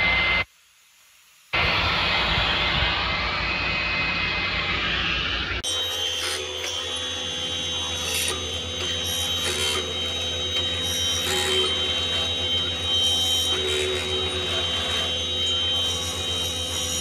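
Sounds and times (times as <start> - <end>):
other machine noise: 0.0 - 0.6, 1.4 - 17.0
woodworking machine whining: 1.6 - 17.0.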